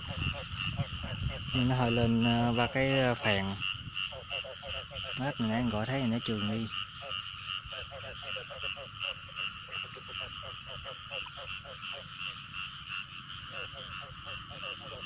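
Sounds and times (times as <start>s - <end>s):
frogs croaking rapidly: 0.0s - 15.0s
high-pitched frog chorus: 0.0s - 15.0s.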